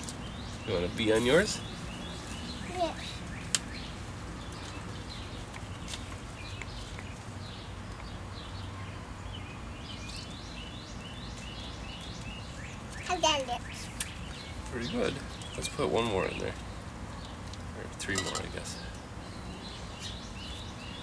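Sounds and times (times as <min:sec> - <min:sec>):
outdoor background noise: 0:00.0 - 0:21.0
small birds chirping: 0:00.0 - 0:21.0.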